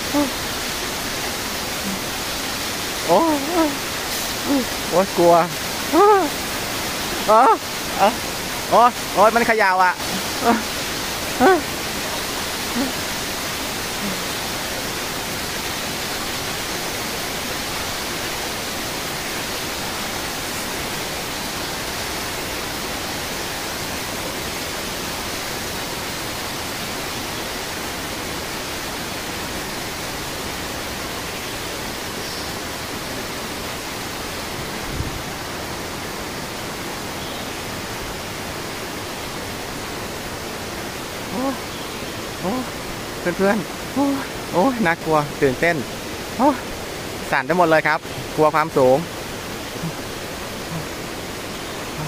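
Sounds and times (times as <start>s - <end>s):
stream and waterfall rushing: 0.0s - 52.0s.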